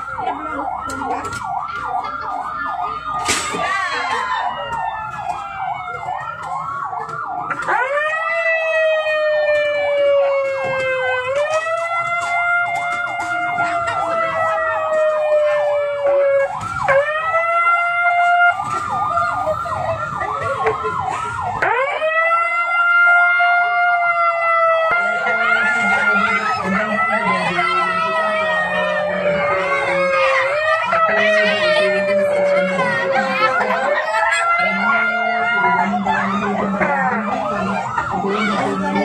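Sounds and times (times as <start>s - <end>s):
ambulance siren warbling: 0.0s - 39.0s.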